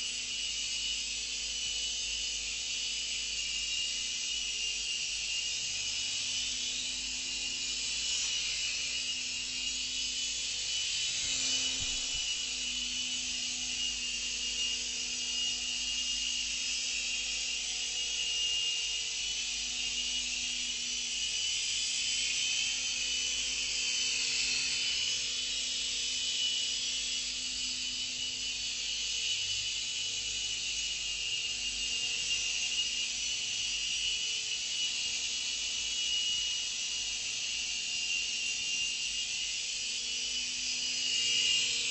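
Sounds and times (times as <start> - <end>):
toy helicopter rotor whine: 0.0 - 41.9.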